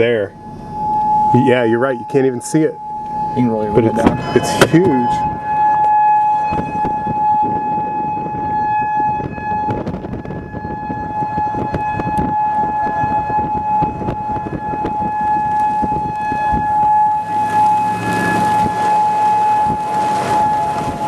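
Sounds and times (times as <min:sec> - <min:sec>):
warning siren steady high tone: 0:00.0 - 0:21.0
wind and rain: 0:03.4 - 0:21.0.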